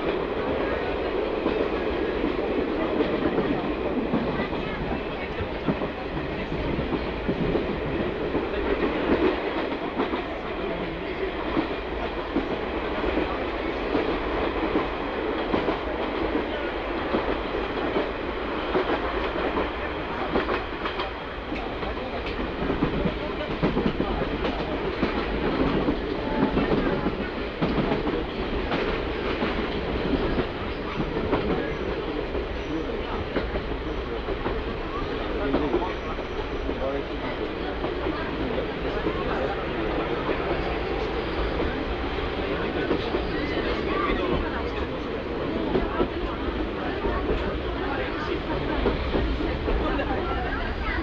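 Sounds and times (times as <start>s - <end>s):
diesel railcar rumbling: 0.0s - 51.0s.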